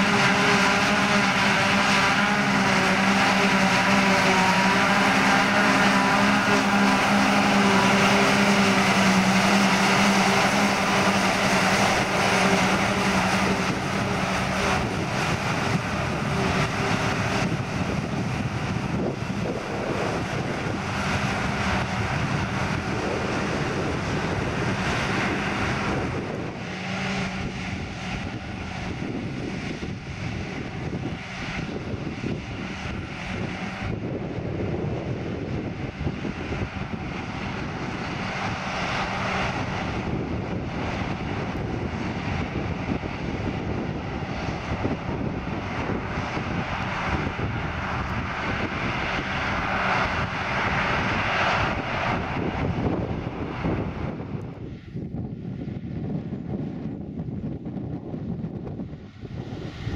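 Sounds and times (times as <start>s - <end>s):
forage harvester mechanical drone: 0.0s - 59.9s.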